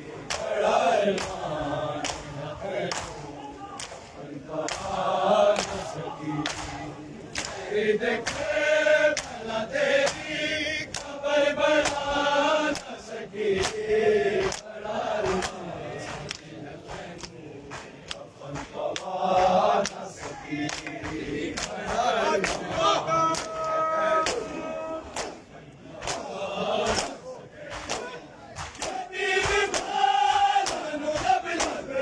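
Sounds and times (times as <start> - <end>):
men chanting in unison: 0.0 - 32.0
hands slapping bare chests: 0.3 - 2.3, 2.9 - 8.5, 9.1 - 9.4, 10.9 - 11.2, 11.8 - 12.1, 13.6 - 23.6, 24.2 - 31.8.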